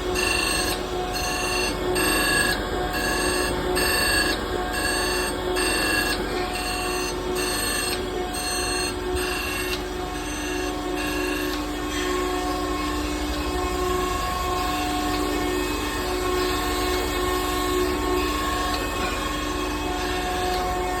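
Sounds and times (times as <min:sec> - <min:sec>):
grinding machine whine: 0:00.0 - 0:21.0.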